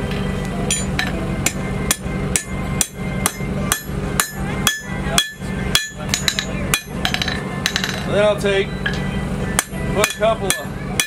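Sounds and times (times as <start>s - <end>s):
hammer striking iron on anvil: 0.1s - 8.1s, 8.8s - 11.0s.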